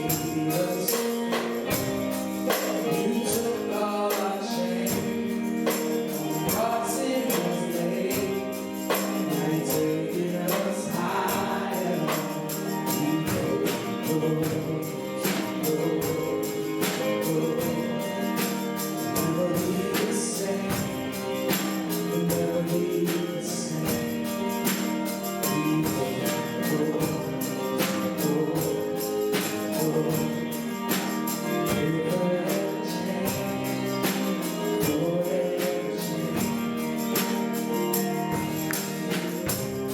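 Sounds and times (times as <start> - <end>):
gospel band playing: 0.0 - 39.9
voices singing: 0.0 - 39.9.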